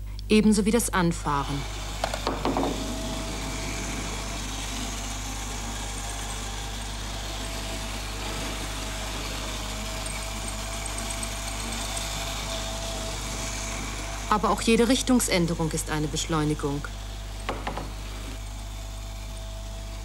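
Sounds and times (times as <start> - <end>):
model train motor whirring: 1.3 - 20.0
wheels on rails: 1.6 - 20.0.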